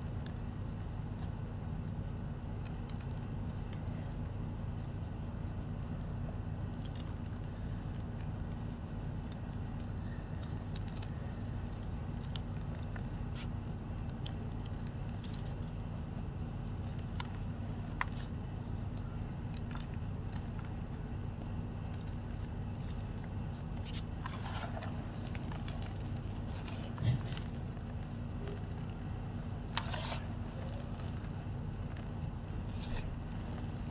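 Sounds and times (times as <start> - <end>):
steady low rumble: 0.0 - 33.9
chalk crackling when crushed: 2.0 - 33.9.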